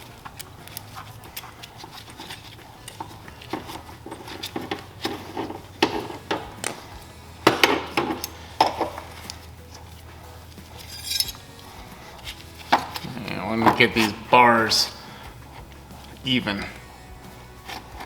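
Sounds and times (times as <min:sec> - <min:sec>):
metal tool parts clinking: 0:00.0 - 0:14.9.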